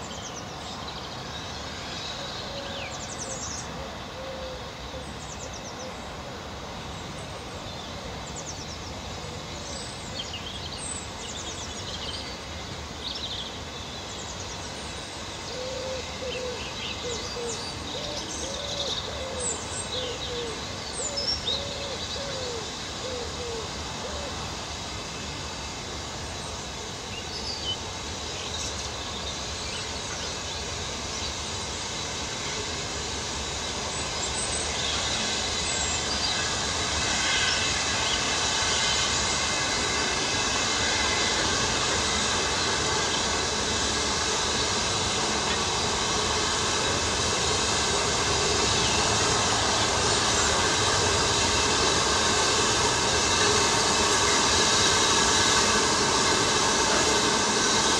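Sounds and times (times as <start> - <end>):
steam locomotive working: 0.0 - 57.9.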